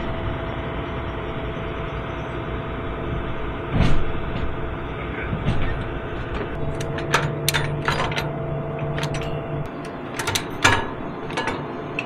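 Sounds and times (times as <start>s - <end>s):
steady engine hum: 0.0s - 12.0s.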